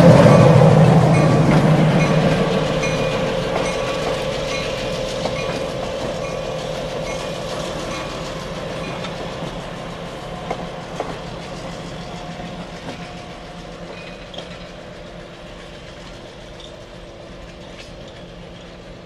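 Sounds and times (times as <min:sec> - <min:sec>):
diesel locomotive engine hum: 0:00.0 - 0:19.0
train wheels clicking over rail joints: 0:00.0 - 0:19.0.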